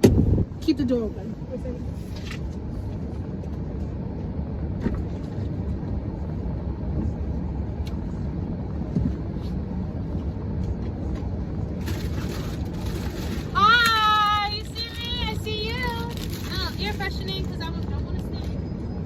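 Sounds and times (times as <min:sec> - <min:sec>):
car low rumble: 0:00.0 - 0:19.0.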